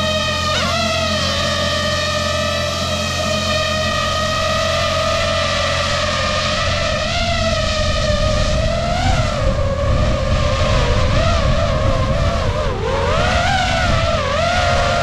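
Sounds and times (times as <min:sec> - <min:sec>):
drone propellers whining: 0:00.0 - 0:15.0
wind rumble: 0:00.0 - 0:15.0.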